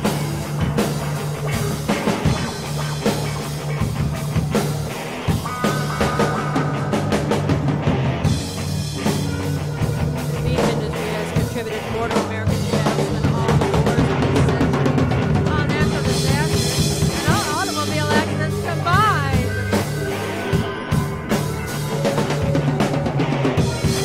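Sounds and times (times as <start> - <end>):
instrumental rock music: 0.0 - 24.0.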